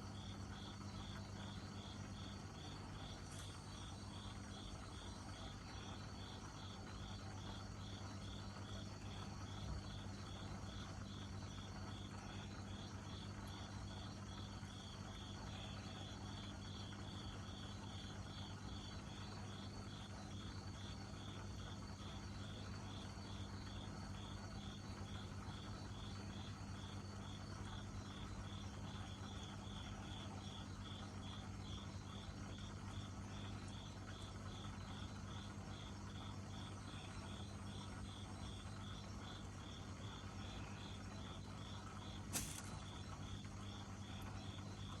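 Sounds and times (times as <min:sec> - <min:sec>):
cricket chirping: 0:00.0 - 0:45.0.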